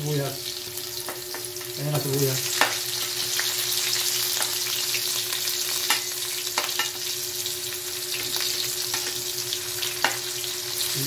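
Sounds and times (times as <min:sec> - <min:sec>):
garlic and onion sizzling in oil: 0:00.0 - 0:11.0.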